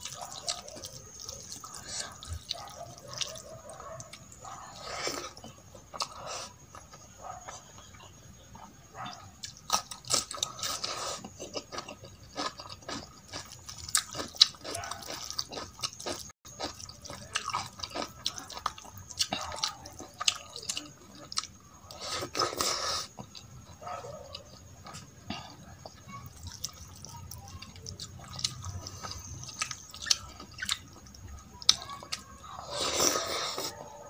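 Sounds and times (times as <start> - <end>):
close chewing and lip smacks: 0.0 - 33.9.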